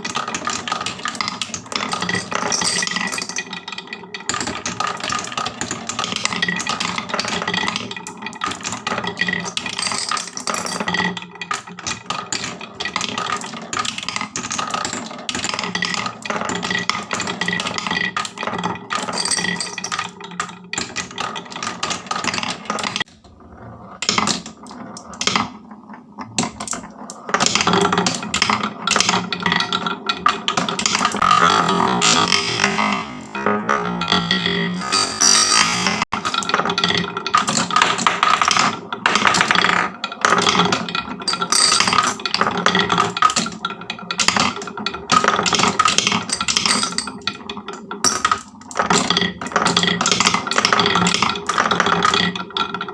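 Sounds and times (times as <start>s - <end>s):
marbles rolling on wooden run: 0.0s - 52.9s.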